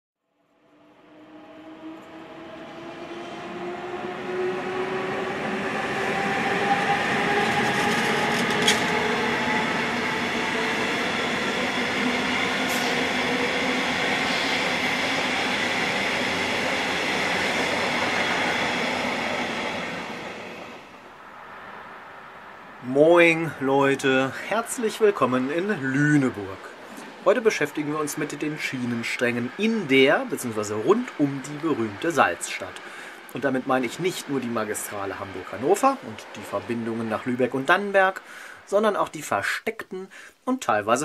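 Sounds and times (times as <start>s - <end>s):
train wheels on rails: 0.9s - 39.6s.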